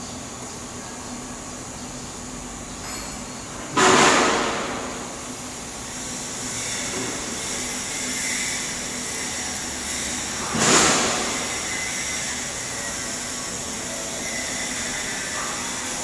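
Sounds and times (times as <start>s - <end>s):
welding arc crackling hiss: 2.1s - 16.0s.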